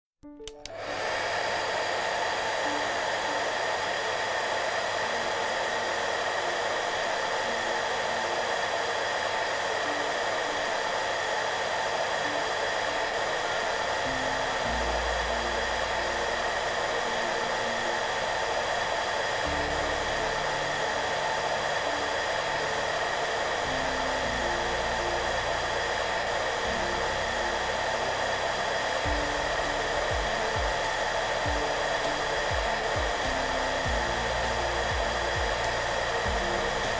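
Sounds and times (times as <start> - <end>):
soft background music: 0.2 - 36.9
hair dryer running: 0.5 - 36.9.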